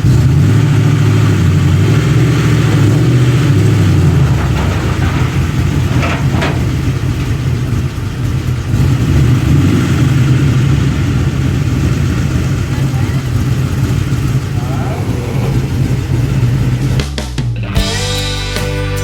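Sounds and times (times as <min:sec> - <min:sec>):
car engine running: 0:00.0 - 0:18.3.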